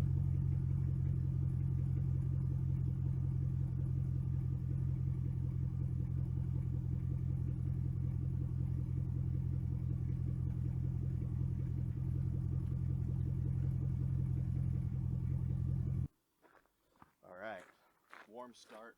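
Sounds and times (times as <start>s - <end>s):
car engine idling: 0.0s - 16.1s.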